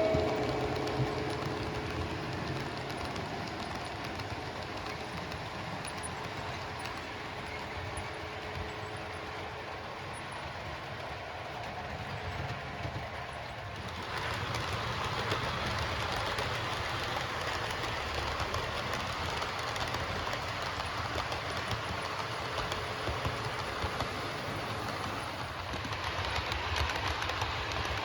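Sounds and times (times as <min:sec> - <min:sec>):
model train motor hum: 0:00.0 - 0:28.0
wheels clicking over rail: 0:00.0 - 0:28.0.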